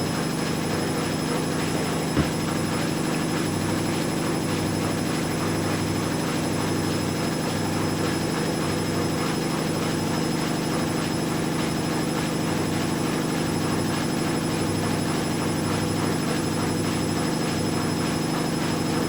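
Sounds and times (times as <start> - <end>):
washing machines spinning: 0.2 - 19.0.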